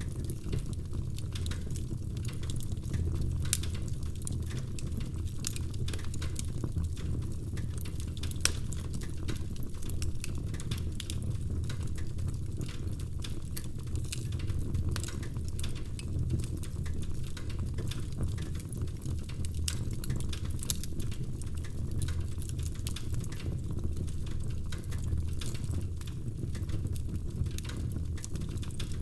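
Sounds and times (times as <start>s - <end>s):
low rumble of flames: 0.0s - 29.0s
wood fire crackling and popping: 0.0s - 29.0s.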